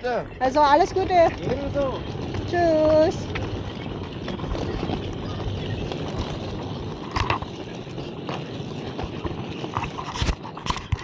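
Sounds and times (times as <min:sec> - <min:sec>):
suitcase wheels rolling on pavement: 0:00.0 - 0:11.0.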